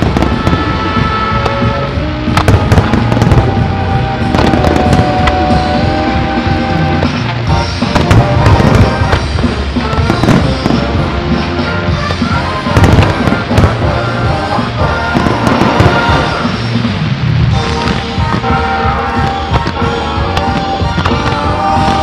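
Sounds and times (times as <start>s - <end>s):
fireworks bursting and crackling: 0.0s - 22.0s
loud music: 0.0s - 22.0s.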